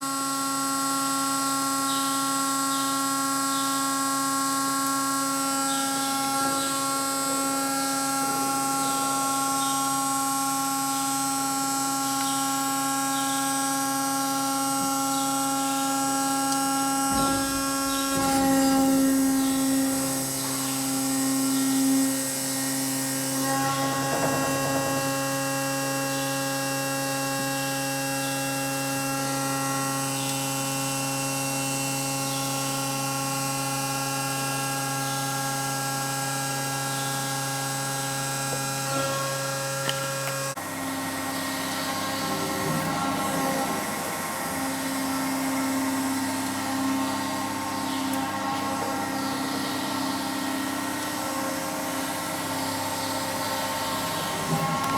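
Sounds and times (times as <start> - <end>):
surface grinder humming: 3.3 - 54.9.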